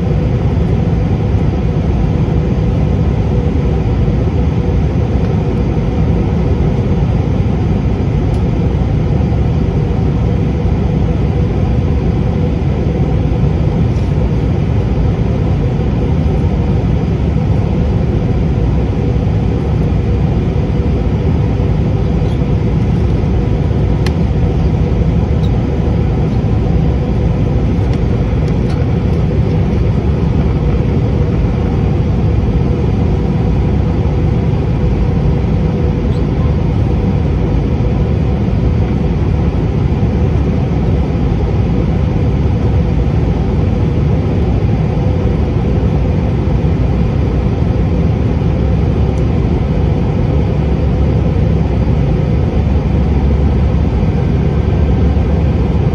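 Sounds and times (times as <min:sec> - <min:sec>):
jet engine roar and rushing air: 0:00.0 - 0:55.9.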